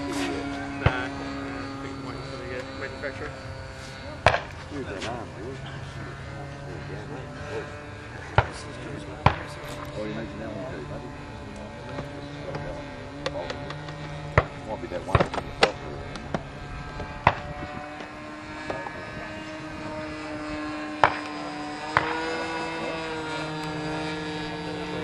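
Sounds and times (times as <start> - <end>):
model airplane engine running: 0.0 - 25.0.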